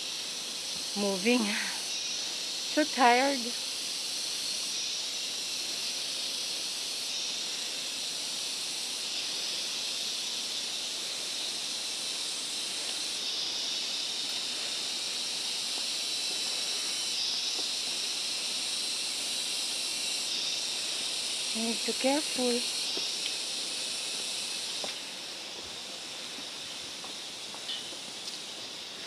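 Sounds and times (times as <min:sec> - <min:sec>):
insect chorus hissing: 0:00.0 - 0:29.0.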